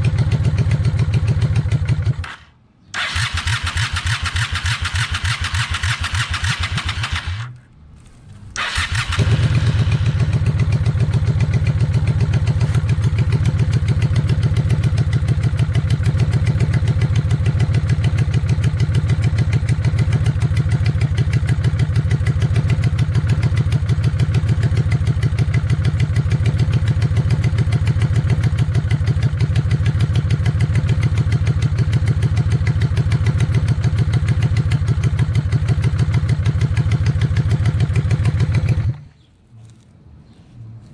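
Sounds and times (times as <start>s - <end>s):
motorcycle engine idling: 0.0s - 39.3s.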